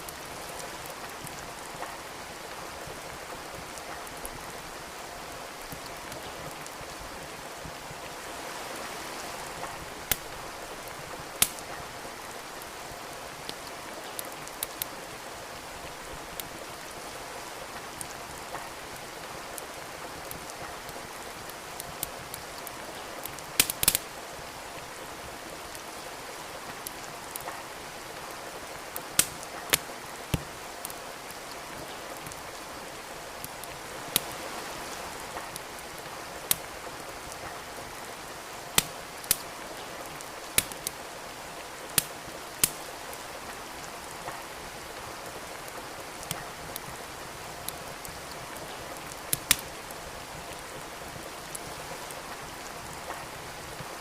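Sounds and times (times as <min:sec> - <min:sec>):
rain hiss: 0:00.0 - 0:54.0
wood fire crackling: 0:00.0 - 0:54.0.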